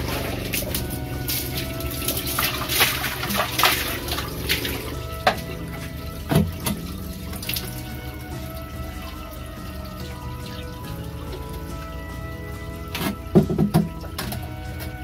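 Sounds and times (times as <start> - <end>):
water splashing in glass aquarium: 0.0 - 15.0.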